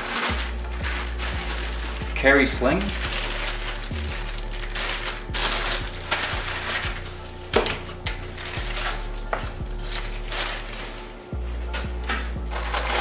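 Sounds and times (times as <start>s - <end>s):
plastic packaging crinkling: 0.0s - 11.4s, 12.5s - 13.0s.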